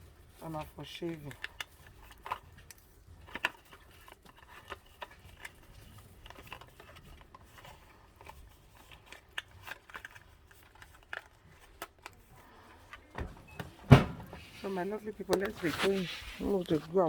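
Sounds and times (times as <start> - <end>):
light clicks and rustling: 0.3 - 17.0.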